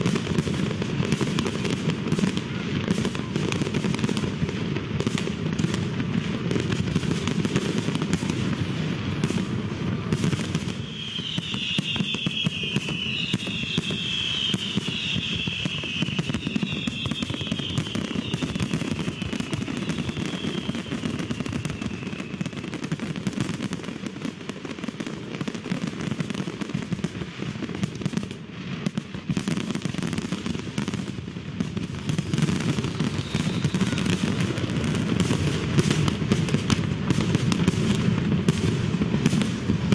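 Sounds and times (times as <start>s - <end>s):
fireworks exploding: 0.0s - 39.9s.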